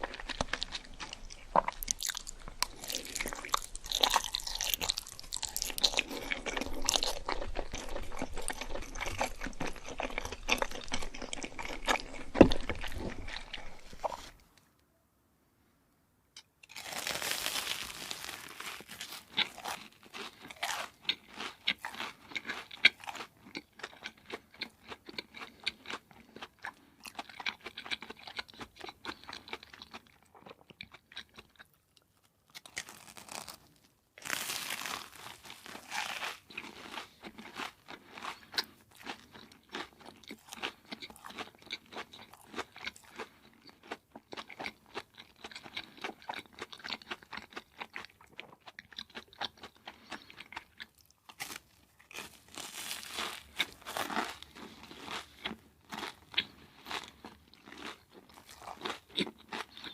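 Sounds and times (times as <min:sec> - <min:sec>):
crunching and chewing fried food: 0:00.0 - 0:14.6, 0:16.6 - 0:59.9.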